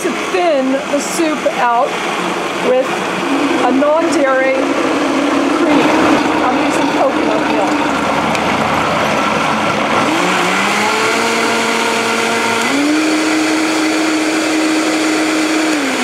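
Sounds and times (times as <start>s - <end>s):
blender motor whining: 0.0s - 16.0s.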